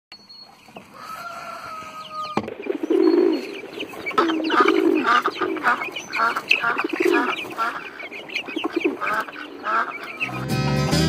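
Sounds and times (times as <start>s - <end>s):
poultry clucking and quacking: 0.2s - 11.0s
poultry long call: 0.8s - 10.8s.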